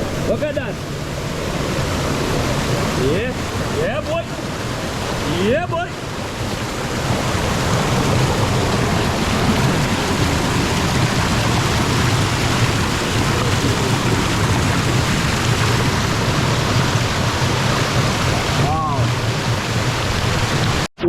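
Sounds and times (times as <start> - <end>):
waterfall crashing into pool: 0.0 - 20.9.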